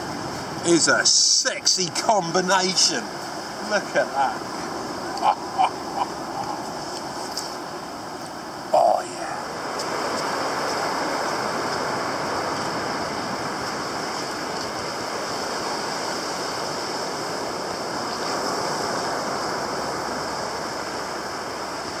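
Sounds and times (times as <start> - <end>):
sea surf washing on beach: 0.0 - 22.0.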